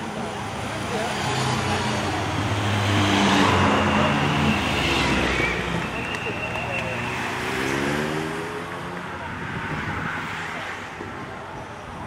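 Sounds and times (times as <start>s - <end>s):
car passing: 0.6s - 11.0s.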